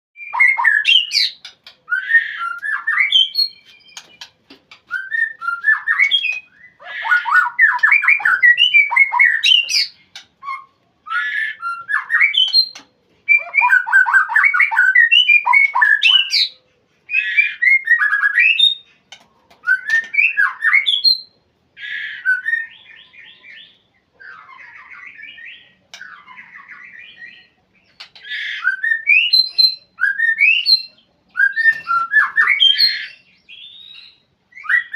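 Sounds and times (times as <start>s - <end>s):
bird singing loud song: 0.2s - 34.9s.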